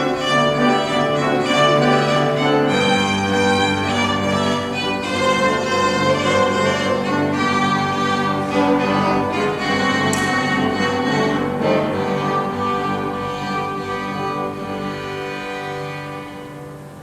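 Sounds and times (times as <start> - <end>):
piano: 0.0 - 17.0
violin and cello: 0.0 - 17.0.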